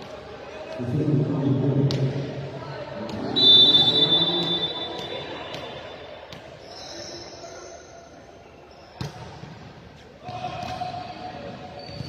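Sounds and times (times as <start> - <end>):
gym hall ambience: 0.0 - 12.0.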